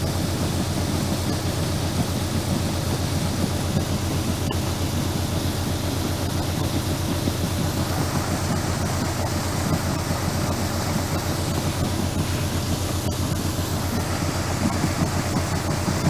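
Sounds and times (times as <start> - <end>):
electric grain auger running: 0.0 - 16.0.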